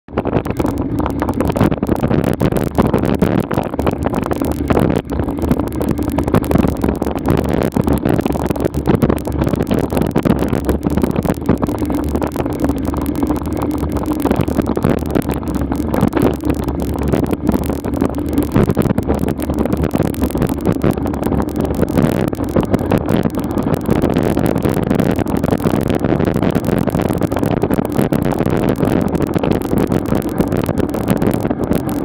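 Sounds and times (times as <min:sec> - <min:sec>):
microphone crackling and rumble: 0:00.0 - 0:32.0.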